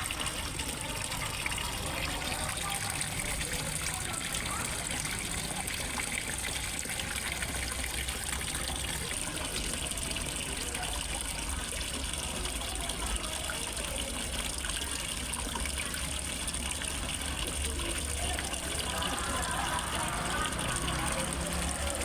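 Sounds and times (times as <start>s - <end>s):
water splashing into pond: 0.0s - 22.0s.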